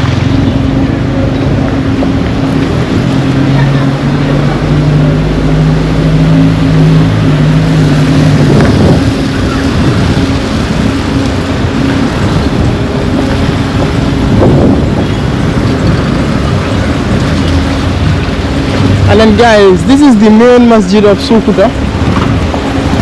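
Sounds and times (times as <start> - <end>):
heavy rain: 0.0 - 23.0
vehicle engine humming: 0.0 - 23.0.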